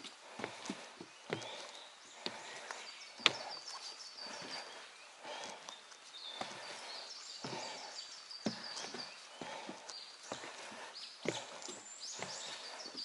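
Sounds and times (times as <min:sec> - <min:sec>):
footsteps on trail steps: 0:00.0 - 0:13.0.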